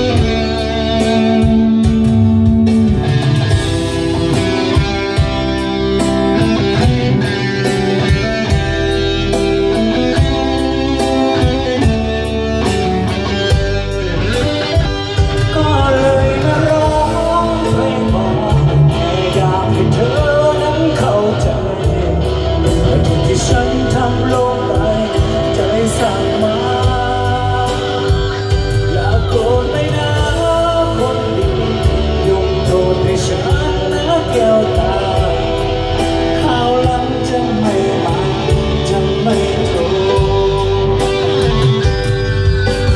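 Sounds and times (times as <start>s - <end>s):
electric guitar through amplifier: 0.0s - 42.9s
person singing into a microphone: 0.0s - 42.9s.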